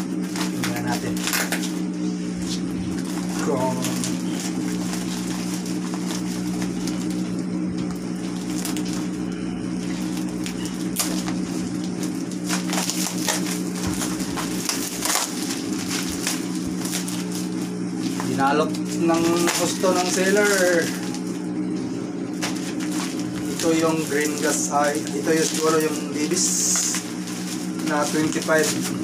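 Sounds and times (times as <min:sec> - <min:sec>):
packaging tearing and rustling: 0:00.0 - 0:21.5, 0:22.3 - 0:29.0
steady low hum: 0:00.0 - 0:29.0.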